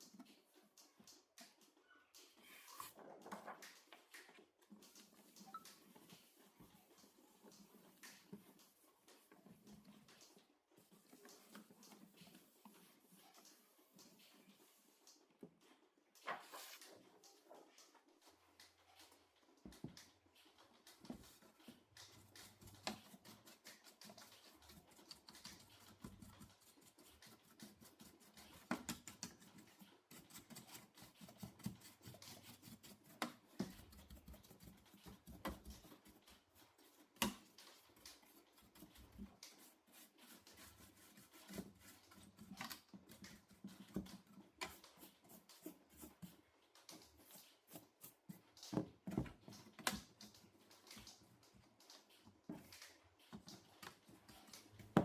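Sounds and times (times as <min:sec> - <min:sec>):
irregular clicks and scratching: 0:00.0 - 0:55.0.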